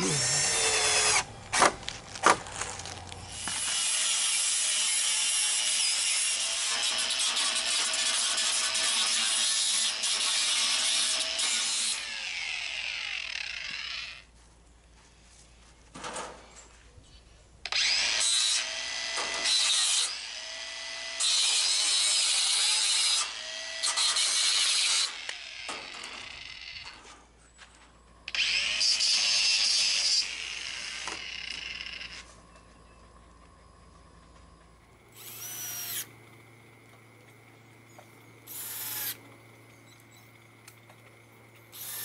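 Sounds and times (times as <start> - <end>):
angle grinder cutting wire mesh: 0.0 - 1.7, 2.6 - 14.2, 17.7 - 27.1, 28.3 - 32.3, 35.1 - 42.0.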